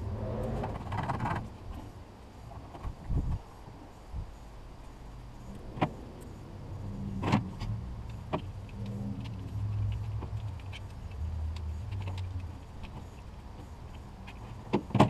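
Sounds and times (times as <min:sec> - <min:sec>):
low hum: 0:00.0 - 0:14.2.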